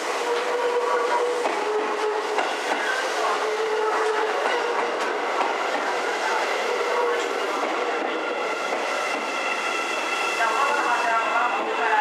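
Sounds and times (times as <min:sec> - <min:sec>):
train wheels clacking on rail joints: 0:00.0 - 0:09.8
electric train whine: 0:00.0 - 0:12.0.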